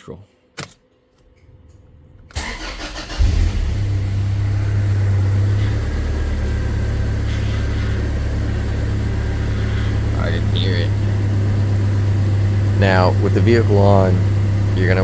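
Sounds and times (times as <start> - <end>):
car engine starting and idling: 0.6 - 15.0.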